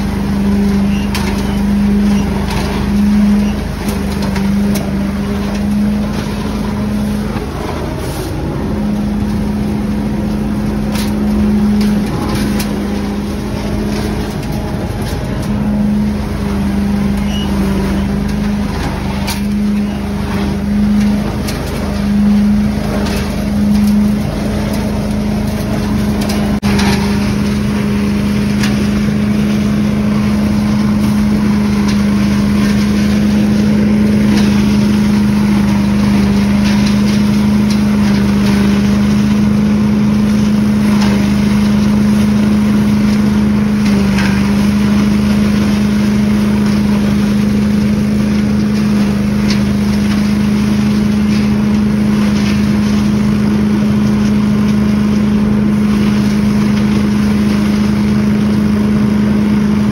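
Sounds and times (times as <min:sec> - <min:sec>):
leaf loader engine and fan drone: 0:00.0 - 0:59.9.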